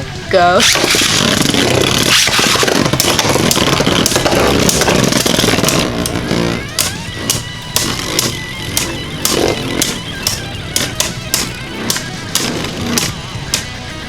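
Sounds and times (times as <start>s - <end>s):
spinning tops whirring and grinding: 0.0s - 14.0s.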